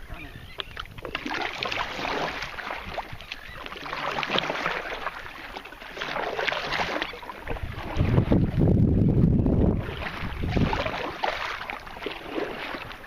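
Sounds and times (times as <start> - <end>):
paddle strokes in water: 0.0 - 13.0
water splashing around a kayak: 0.0 - 13.0.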